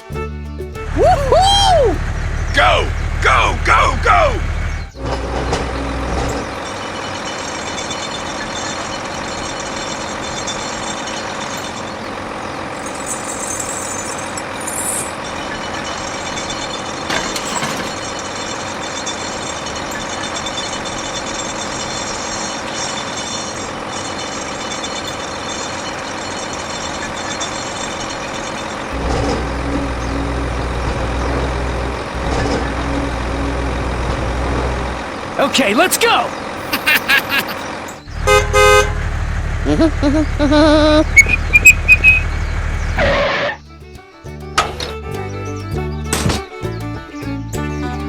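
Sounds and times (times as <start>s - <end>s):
mini tractor engine running: 0.0s - 48.0s.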